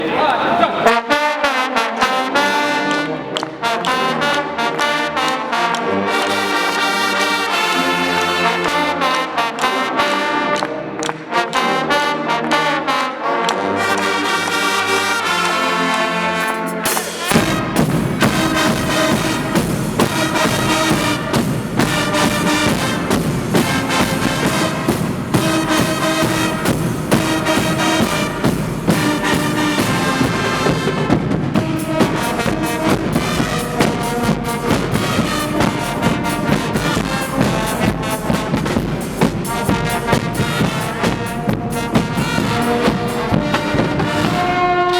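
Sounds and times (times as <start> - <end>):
brass horns playing: 0.0 - 44.9
drums and percussion: 2.1 - 44.9.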